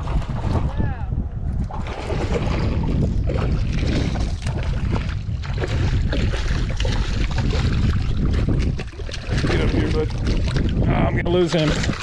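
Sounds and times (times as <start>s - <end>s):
fish splashing and thrashing: 0.0s - 0.7s, 1.5s - 12.0s
wind buffeting microphone: 0.0s - 12.0s.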